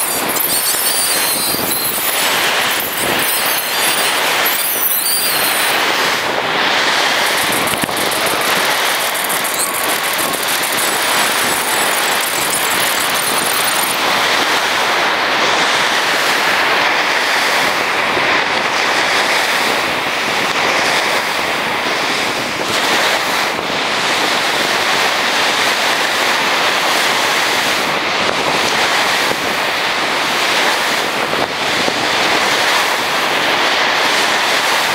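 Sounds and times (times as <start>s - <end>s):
waves breaking on a beach: 0.0s - 34.9s.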